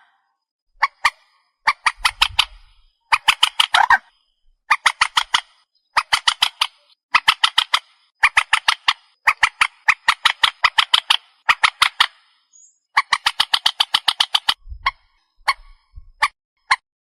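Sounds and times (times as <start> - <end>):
marsh bird harsh calls: 0.8 - 16.8.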